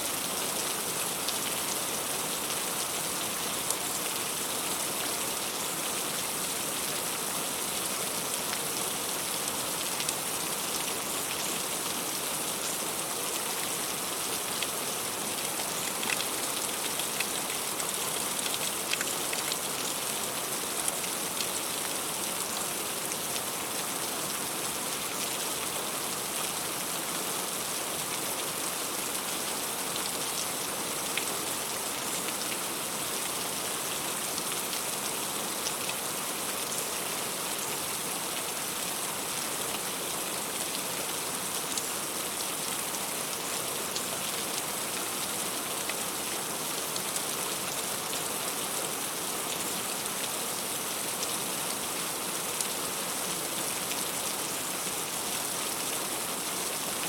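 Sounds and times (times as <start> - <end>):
heavy rain on leaves: 0.0 - 57.0.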